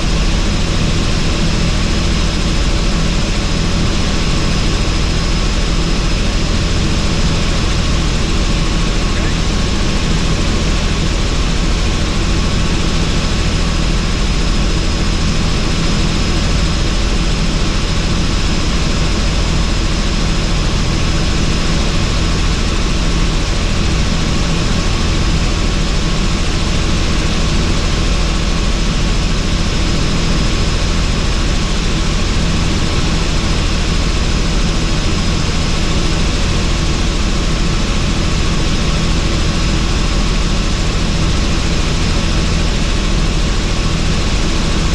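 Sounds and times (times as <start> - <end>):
helicopter engine and rotor noise: 0.0 - 44.9.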